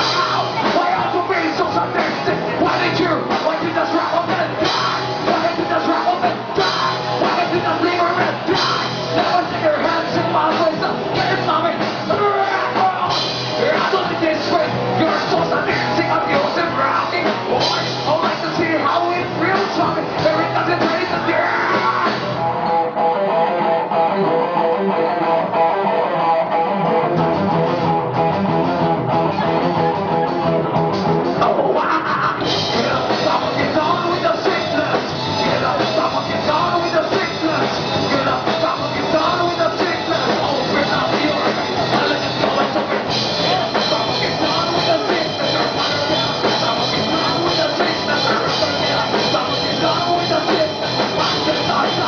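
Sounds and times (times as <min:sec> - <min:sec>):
electric guitar: 0:00.0 - 0:52.0
rock band playing: 0:00.0 - 0:52.0.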